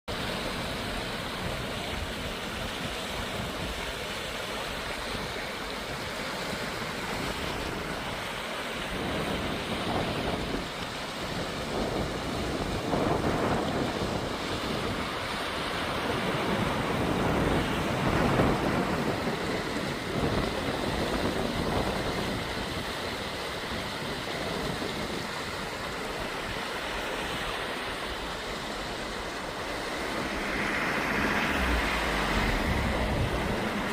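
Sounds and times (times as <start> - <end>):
stream rushing over rocks: 0.1 - 33.9.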